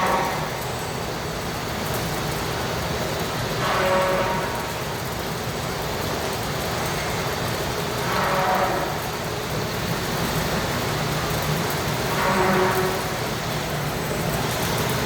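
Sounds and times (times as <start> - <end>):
machine running with motor whine: 0.0 - 15.0.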